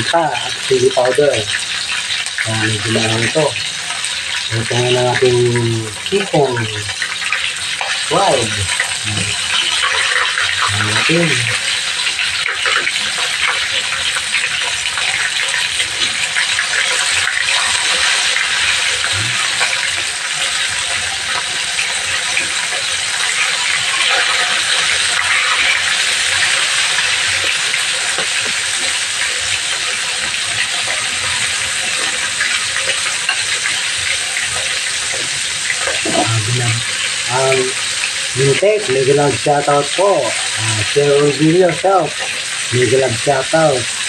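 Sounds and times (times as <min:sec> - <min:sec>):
chicken sizzling in hot oil: 0:00.0 - 0:44.0.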